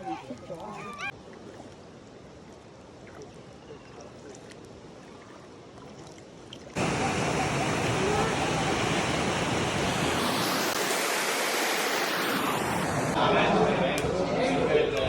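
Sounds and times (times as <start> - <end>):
rush of running water: 0.0 - 13.2.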